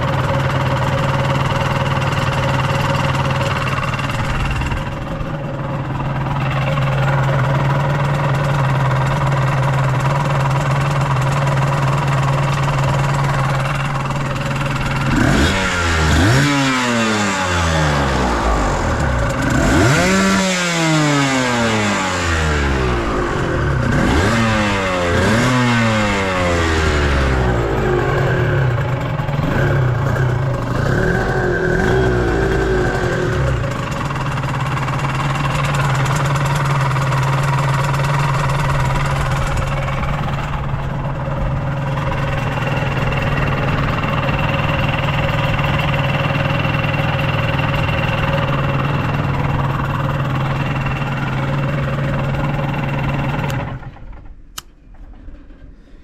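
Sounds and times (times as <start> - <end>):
motorcycle engine revving and idling: 0.0 - 55.7.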